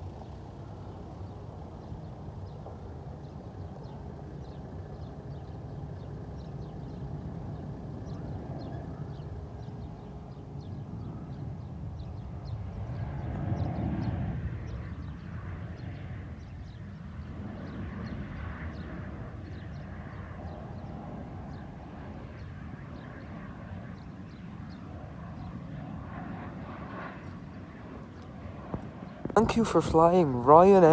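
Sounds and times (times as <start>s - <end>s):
jet engines rumbling: 0.0s - 30.9s.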